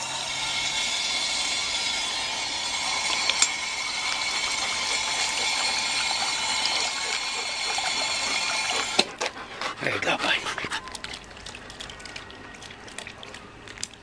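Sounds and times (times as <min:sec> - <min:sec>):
water pouring into steel basin: 0:00.0 - 0:09.0, 0:10.8 - 0:14.0.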